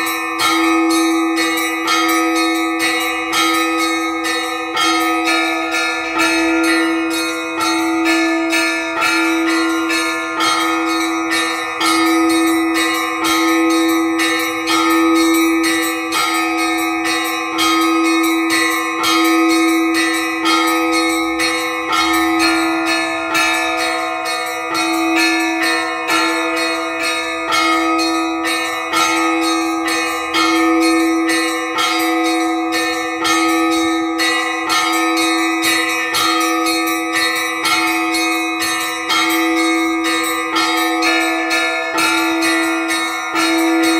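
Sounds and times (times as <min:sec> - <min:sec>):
low bell ringing: 0:00.0 - 0:43.9
small church bells struck quickly: 0:00.0 - 0:43.9.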